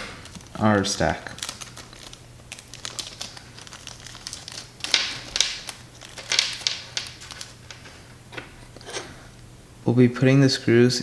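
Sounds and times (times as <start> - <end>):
plastic bag rustling: 0.0 - 8.8
faint steady hum: 0.0 - 11.0.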